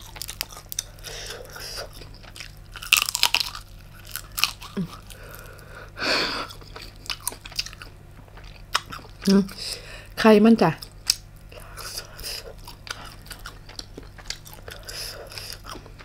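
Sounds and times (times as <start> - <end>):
wet chewing clicks: 0.0 - 5.6, 6.4 - 9.6, 10.8 - 16.0
crunching prawn meat: 0.0 - 5.7, 6.4 - 9.3, 10.8 - 16.0.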